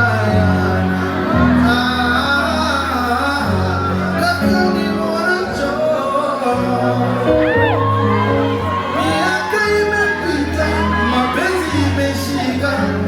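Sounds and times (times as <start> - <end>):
man and woman singing: 0.0 - 13.0.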